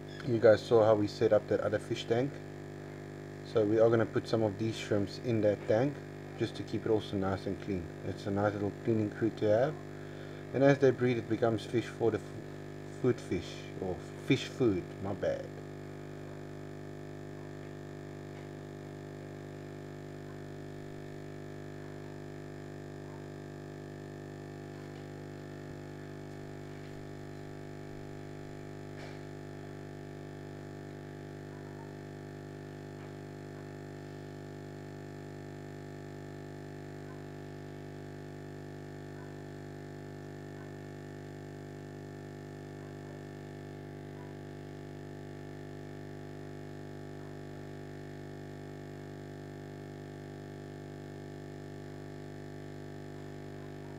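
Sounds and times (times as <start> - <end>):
aquarium pump humming: 0.0 - 53.9.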